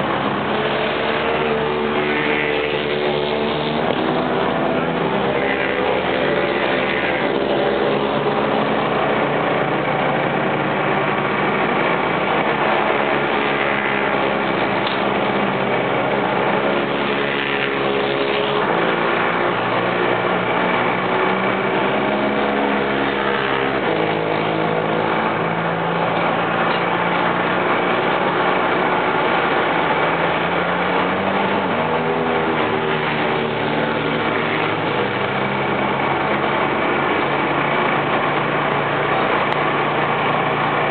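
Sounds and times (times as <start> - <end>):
racing motorcycle engines: 0.0 - 40.9.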